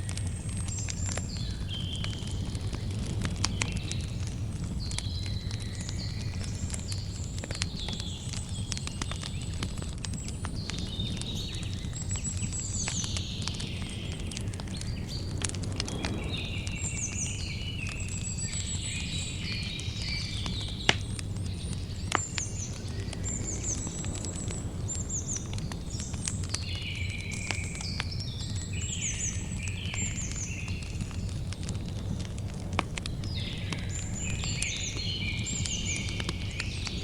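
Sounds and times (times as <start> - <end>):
birds singing: 0.0 - 37.0
campfire crackling and popping: 0.0 - 37.0.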